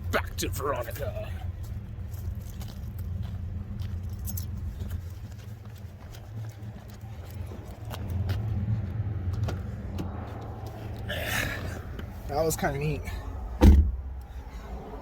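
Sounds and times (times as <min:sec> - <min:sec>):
highway traffic rumbling: 0:00.0 - 0:15.0
vehicle passing: 0:00.0 - 0:15.0.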